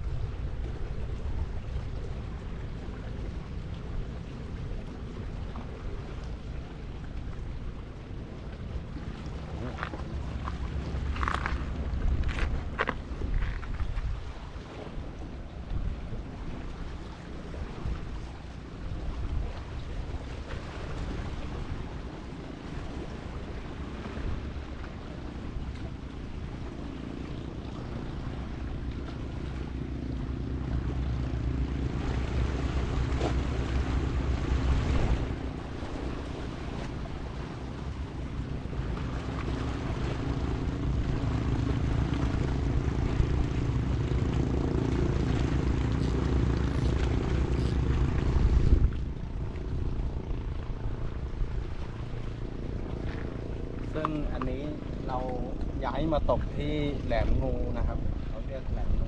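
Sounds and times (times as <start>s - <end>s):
engine drone: 0.0s - 59.0s
surf: 0.0s - 59.0s
wind: 0.0s - 59.0s.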